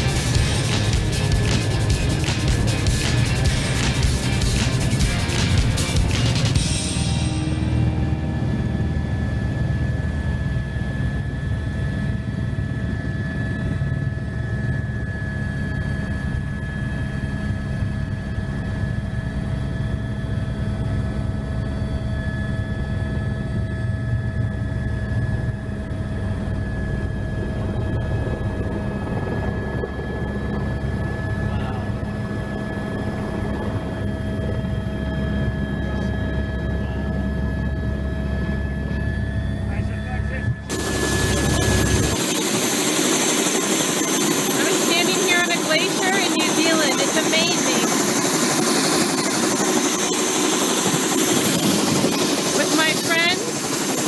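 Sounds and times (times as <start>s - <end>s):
helicopter engine and rotor drone: 0.0s - 54.0s
high turbine whine: 0.0s - 54.0s.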